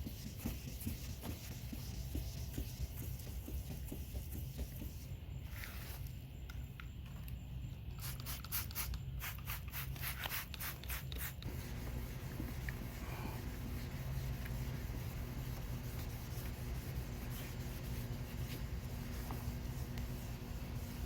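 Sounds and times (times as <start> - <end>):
wet sandpaper rubbing on plastic: 0.0 - 5.8, 8.0 - 21.0.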